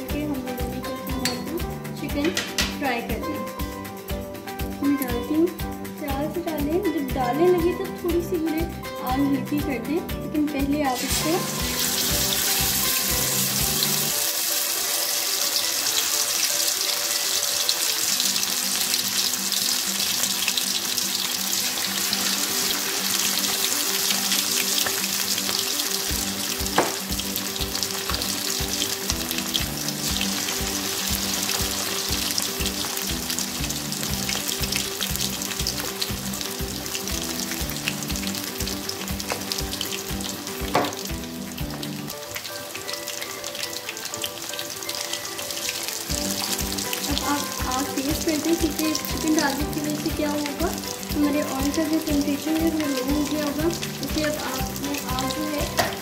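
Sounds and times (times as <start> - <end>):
chicken deep-frying in oil: 10.8 - 56.0.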